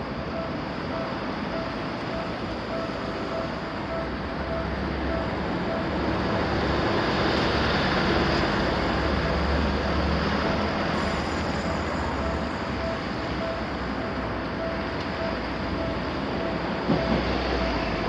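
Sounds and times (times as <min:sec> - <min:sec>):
level-crossing warning bell: 0:00.0 - 0:18.0
train rolling past: 0:00.0 - 0:18.0.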